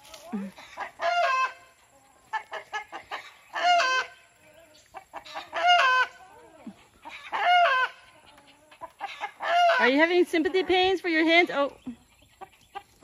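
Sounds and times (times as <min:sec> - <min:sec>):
chicken cackling: 0:00.4 - 0:10.9, 0:11.7 - 0:13.0.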